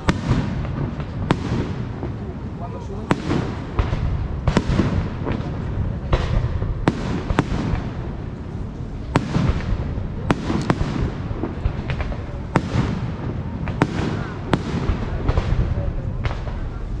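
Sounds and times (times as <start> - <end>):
low rumble and crackle: 0.0 - 17.0.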